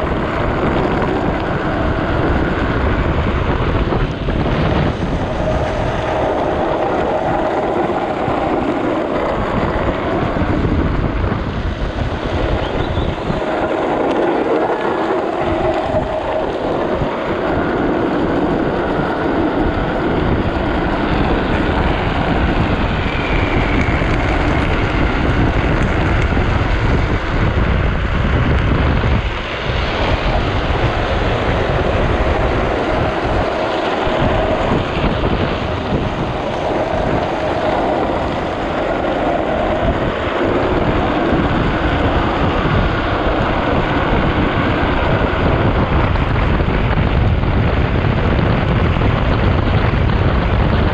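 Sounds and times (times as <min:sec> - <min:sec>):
plastic wheels sliding on wet asphalt: 0:00.0 - 0:50.9
wind buffeting microphone: 0:00.0 - 0:50.9.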